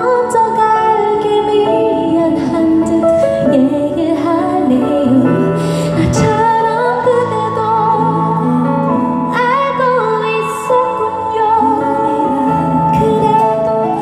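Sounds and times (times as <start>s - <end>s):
musical accompaniment: 0.0s - 14.0s
woman singing a ballad: 0.0s - 14.0s.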